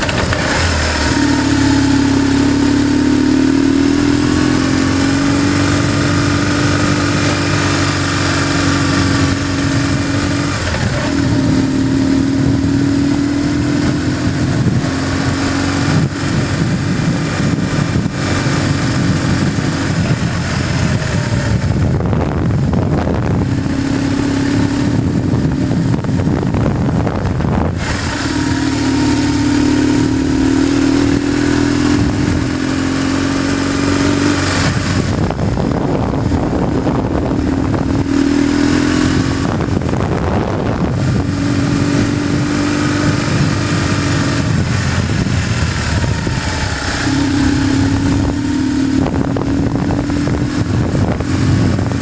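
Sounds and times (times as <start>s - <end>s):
motorcycle engine running: 0.0s - 52.0s
wind rushing: 0.0s - 52.0s.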